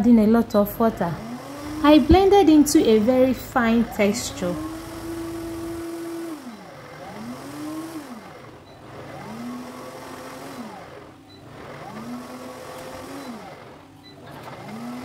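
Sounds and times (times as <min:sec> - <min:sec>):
blender motor whining: 0:00.0 - 0:15.0.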